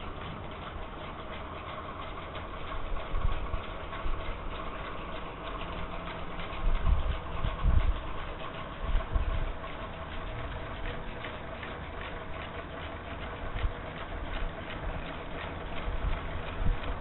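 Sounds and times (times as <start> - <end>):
steady hum: 0.0 - 17.0
whirligig parts clacking: 0.0 - 17.0.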